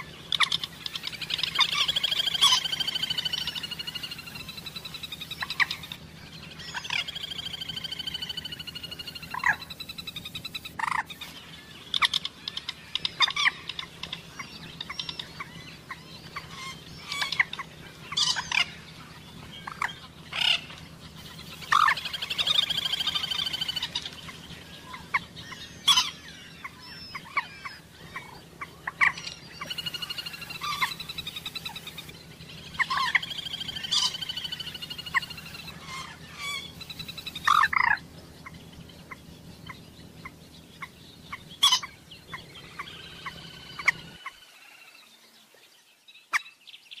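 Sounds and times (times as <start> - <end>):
moorhen calling: 0.0 - 45.0
faint low hum: 0.0 - 46.2.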